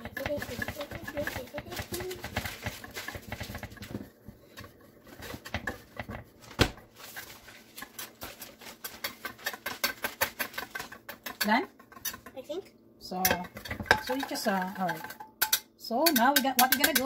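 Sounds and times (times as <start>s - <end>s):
whisk beating in metal bowl: 0.0s - 6.4s, 7.0s - 12.4s, 13.2s - 17.0s.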